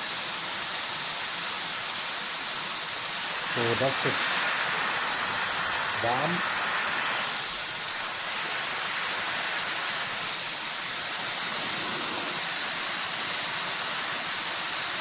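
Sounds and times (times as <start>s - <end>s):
hair dryer blowing air: 2.6s - 15.0s.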